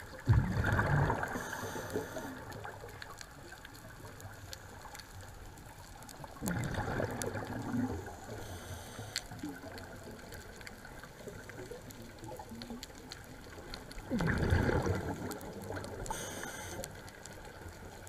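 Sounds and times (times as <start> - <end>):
faint clicks: 0.0 - 18.0
underwater exhaust bubbles: 0.0 - 18.0.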